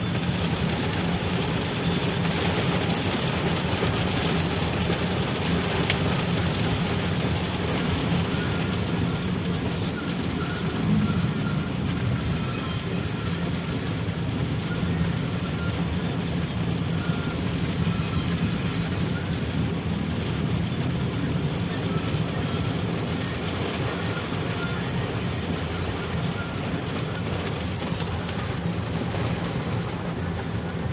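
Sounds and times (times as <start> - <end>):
vehicle engines running: 0.0 - 30.9.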